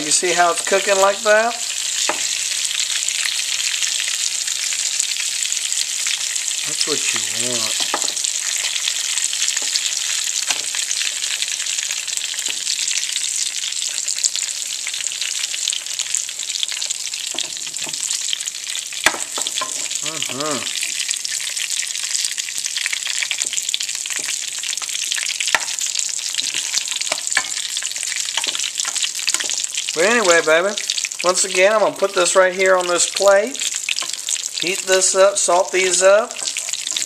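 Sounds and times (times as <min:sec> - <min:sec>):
peppers sizzling in a pan: 0:00.0 - 0:37.0.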